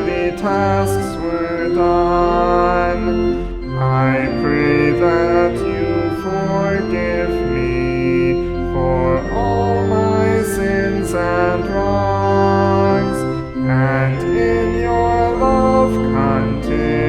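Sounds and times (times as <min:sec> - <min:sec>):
organ playing a hymn: 0:00.0 - 0:17.0.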